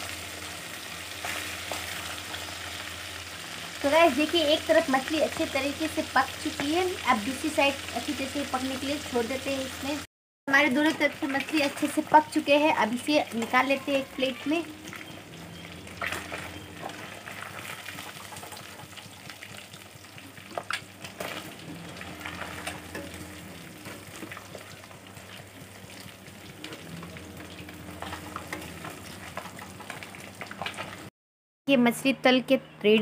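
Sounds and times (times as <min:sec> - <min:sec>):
fish sizzling in hot oil: 0:00.0 - 0:31.1.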